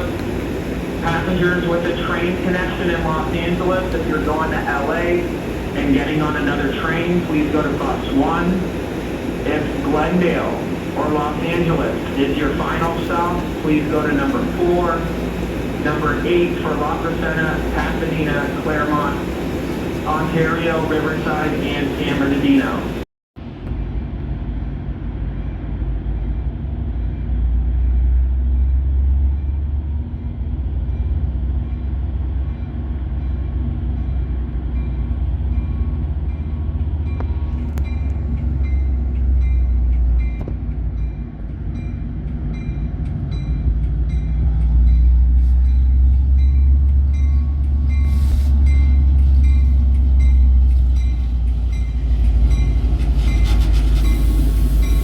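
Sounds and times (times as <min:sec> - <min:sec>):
diesel train engine rumble: 0:00.0 - 0:55.0
rail noise: 0:00.0 - 0:55.0.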